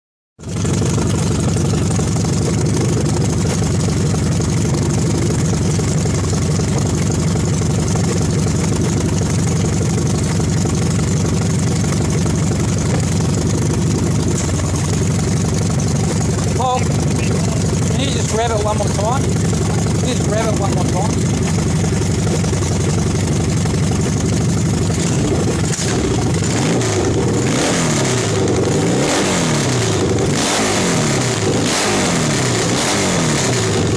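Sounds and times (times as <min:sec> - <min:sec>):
motorcycle engine running: 0:00.4 - 0:33.9.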